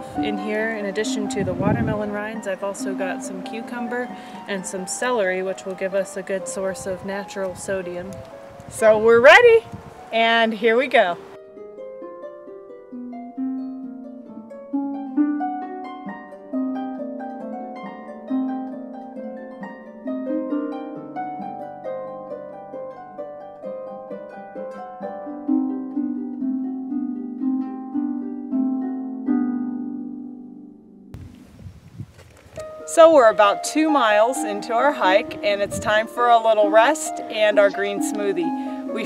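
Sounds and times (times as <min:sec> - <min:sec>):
plucked string melody: 0:00.0 - 0:39.0.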